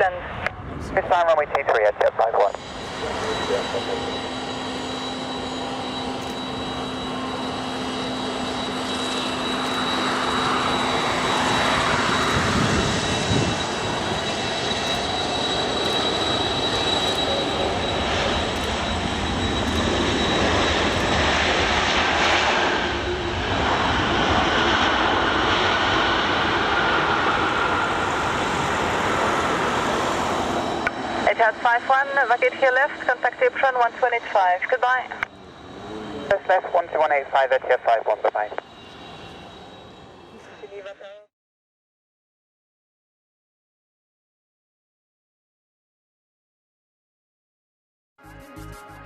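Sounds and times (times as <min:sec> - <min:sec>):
jet engines whining and rushing: 0:00.0 - 0:41.2.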